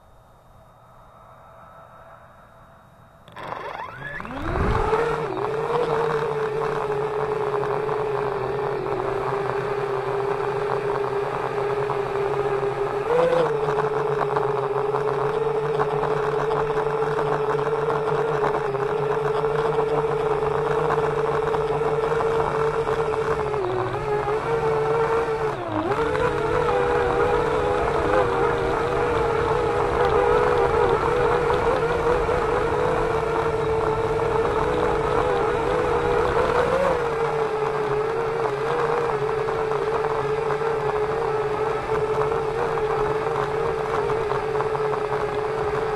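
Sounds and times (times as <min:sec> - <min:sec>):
drone propellers whining: 0:00.0 - 0:45.9.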